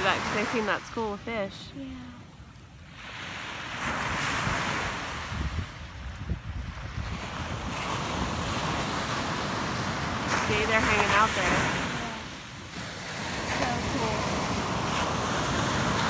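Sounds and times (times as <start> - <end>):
small waves breaking on beach: 0.0 - 16.0
wind buffeting microphone: 0.0 - 16.0.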